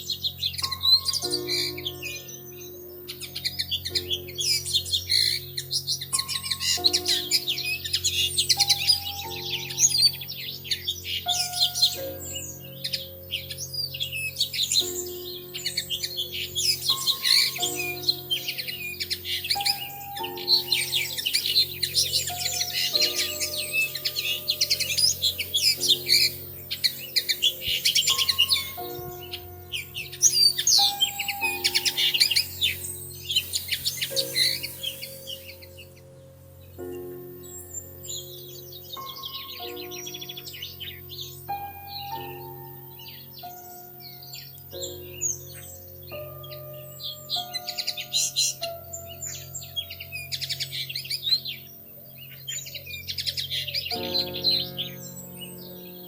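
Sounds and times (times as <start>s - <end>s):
small songbirds chirping: 0.0s - 56.0s
background music with chords: 6.0s - 51.0s.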